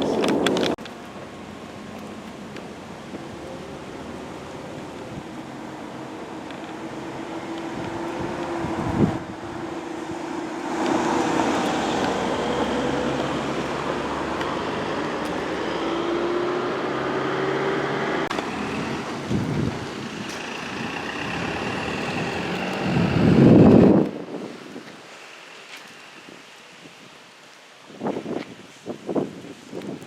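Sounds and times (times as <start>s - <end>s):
road traffic passing: 0.0s - 27.8s.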